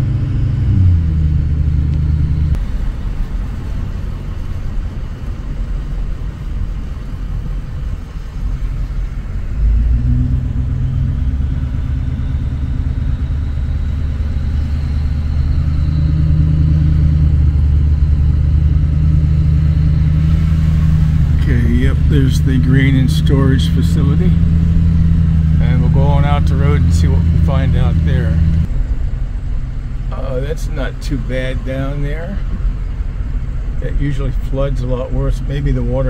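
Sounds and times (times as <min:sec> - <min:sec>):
car driving on wet road: 0:00.0 - 0:36.0.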